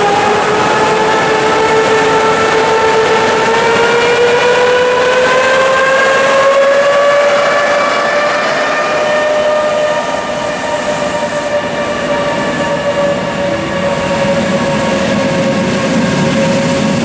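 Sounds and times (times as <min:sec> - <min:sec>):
electric locomotive whine: 0:00.0 - 0:17.0
moving train rumble: 0:00.0 - 0:17.0.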